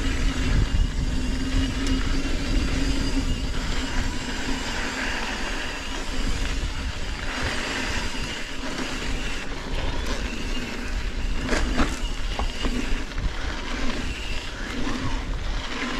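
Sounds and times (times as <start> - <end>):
mountain bike rolling and rattling: 0.0 - 15.9
wind buffeting microphone: 0.0 - 15.9.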